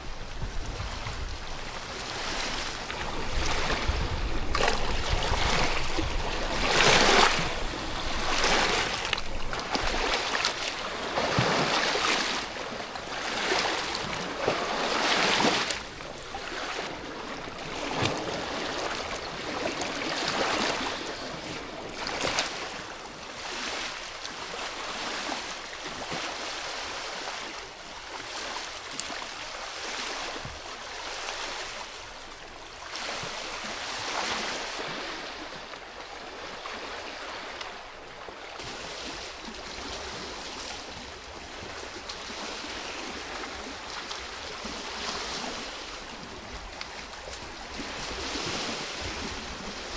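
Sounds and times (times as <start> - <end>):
river water rushing and splashing: 0.0 - 49.9.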